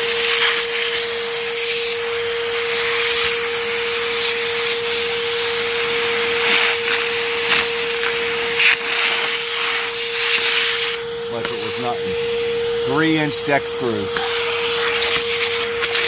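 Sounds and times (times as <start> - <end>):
shop vacuum whining: 0.0 - 16.0.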